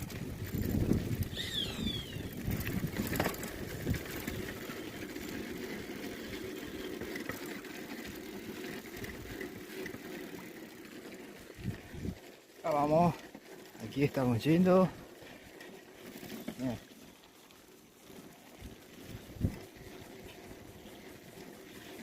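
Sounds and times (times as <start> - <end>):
bicycle frame rattle: 0.0 - 22.0
bicycle tyres rumbling on dirt: 0.0 - 22.0.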